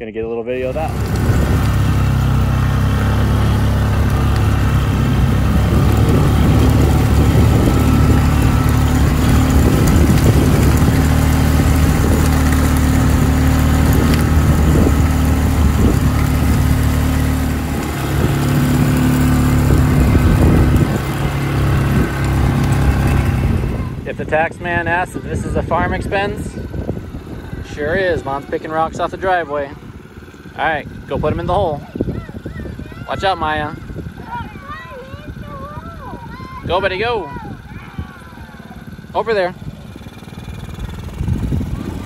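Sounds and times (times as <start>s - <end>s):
small vehicle engine running: 0.5s - 42.0s
chain dragging over dirt: 0.7s - 42.0s.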